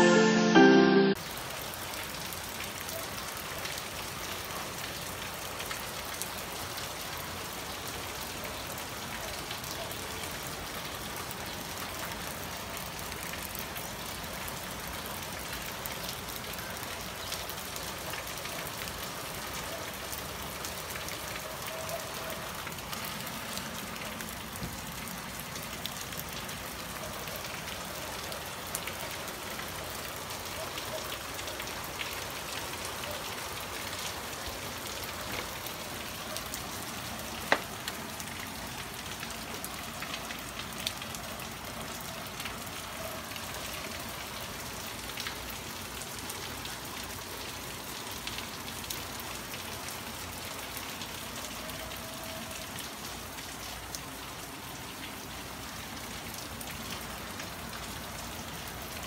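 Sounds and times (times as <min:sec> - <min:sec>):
rain on lawn and paving: 0:00.0 - 0:59.0.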